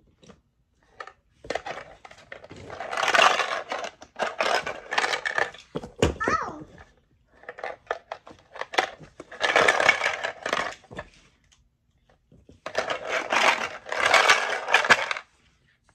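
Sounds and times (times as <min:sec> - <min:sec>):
plastic shapes rattling in ball: 0:00.8 - 0:11.2, 0:12.5 - 0:15.4.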